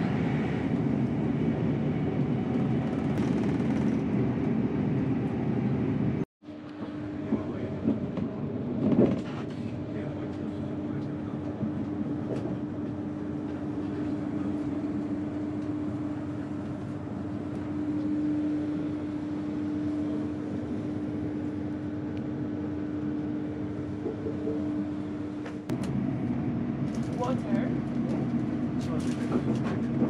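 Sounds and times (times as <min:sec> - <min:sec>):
train carriage rumble: 0:00.0 - 0:30.0.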